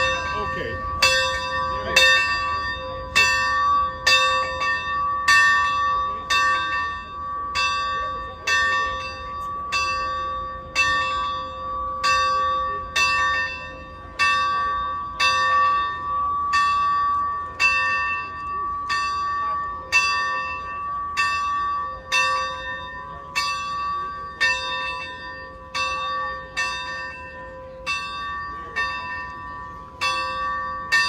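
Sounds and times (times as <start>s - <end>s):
locomotive bell ringing: 0.0s - 31.0s.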